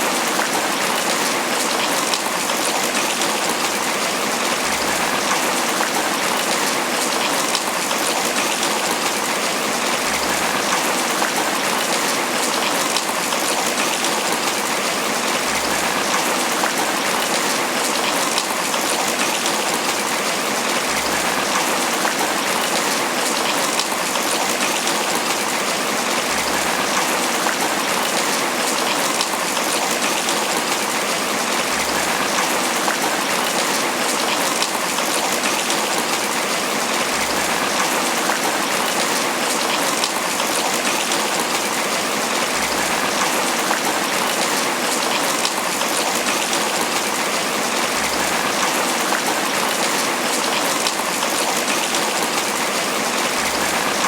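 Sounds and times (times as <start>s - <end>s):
rain pattering on leaves: 0.0s - 54.0s.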